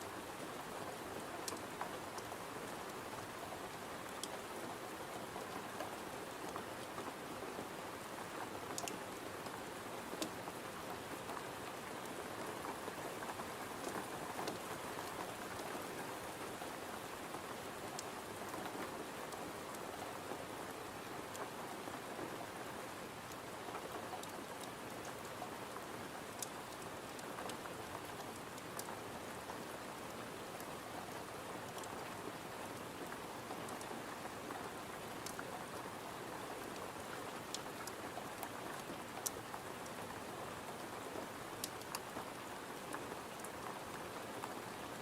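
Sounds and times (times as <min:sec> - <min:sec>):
rain tapping on a window: 0:00.1 - 0:45.0.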